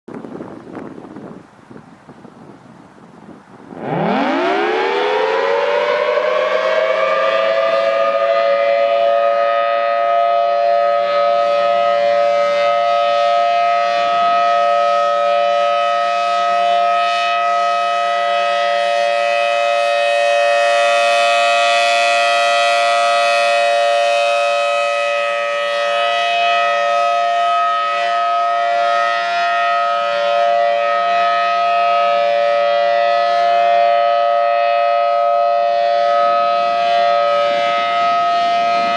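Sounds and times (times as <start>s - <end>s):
tornado siren two-note chord: 3.7s - 38.9s.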